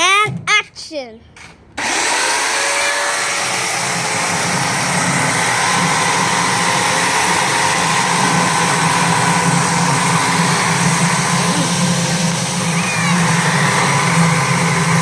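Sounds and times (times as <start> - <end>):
chainsaw running: 1.8 - 15.0.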